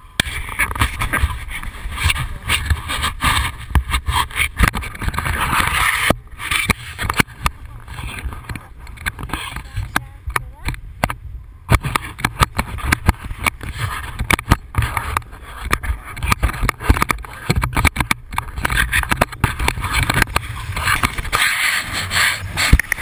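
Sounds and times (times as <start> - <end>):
short crackles and knocks: 0.1 - 23.0
wind buffeting microphone: 0.2 - 23.0.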